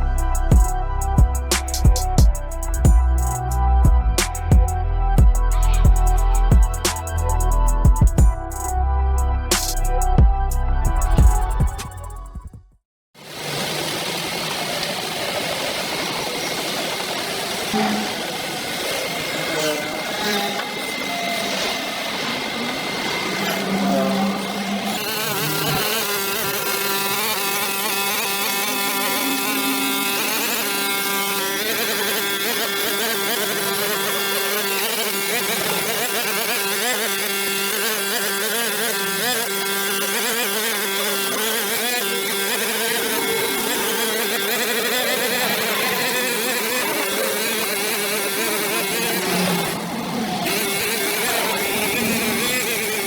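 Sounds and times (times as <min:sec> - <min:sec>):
small engine running: 0:00.0 - 0:08.8, 0:10.8 - 0:12.5, 0:13.2 - 0:53.0.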